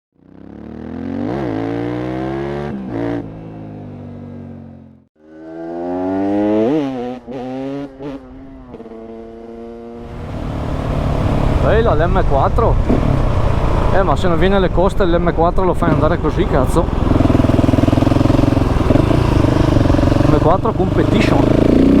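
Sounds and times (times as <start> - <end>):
engine revving: 0.2 - 3.4, 5.2 - 14.7, 15.8 - 22.0.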